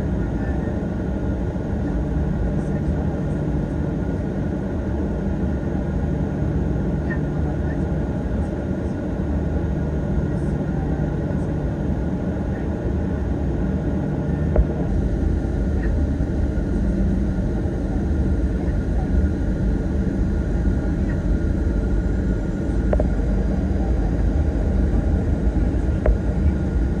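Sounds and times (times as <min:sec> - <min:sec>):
aircraft cabin engine rumble: 0:00.0 - 0:27.0.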